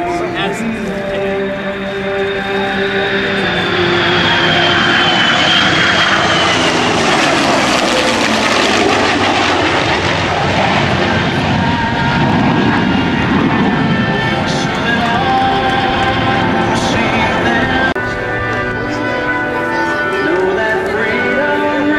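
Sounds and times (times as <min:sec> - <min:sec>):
aircraft engines flying past: 0:00.0 - 0:21.9
high jet whine: 0:00.0 - 0:21.9.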